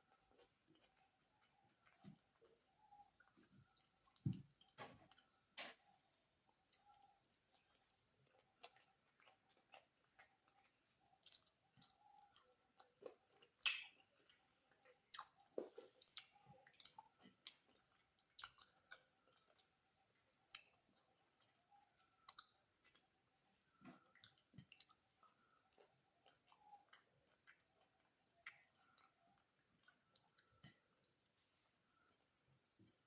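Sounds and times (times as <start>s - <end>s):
chewing and mouth smacks: 0.1s - 33.0s.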